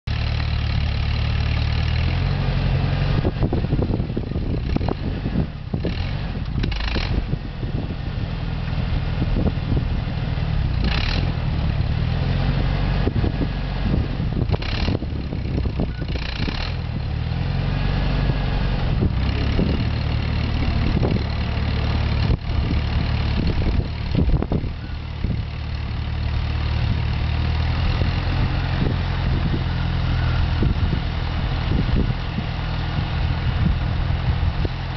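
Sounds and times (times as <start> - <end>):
tractor engine running under load: 0.1 - 34.9.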